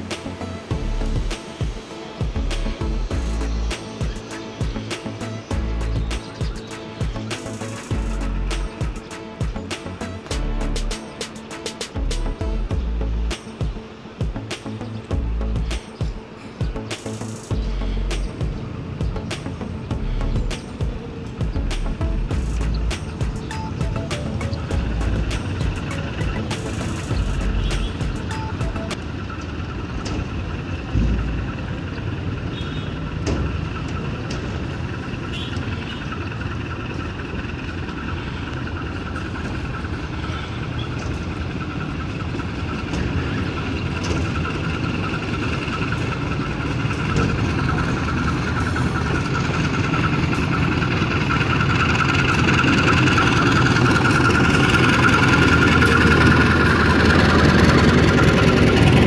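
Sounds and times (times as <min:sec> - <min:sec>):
high whine: 0:00.0 - 0:32.0, 0:33.4 - 0:59.0
diesel locomotive engine rumble: 0:00.0 - 0:59.0.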